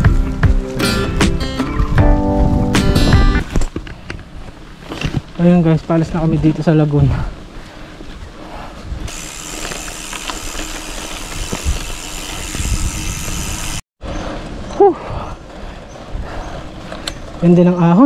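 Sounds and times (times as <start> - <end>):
bicycle road and wind noise: 0.0 - 18.0.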